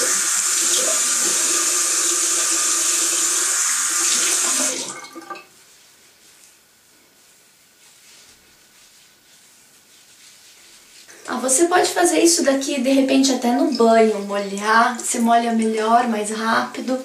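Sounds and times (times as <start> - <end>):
water spraying onto hair: 0.0 - 5.0, 7.4 - 17.0.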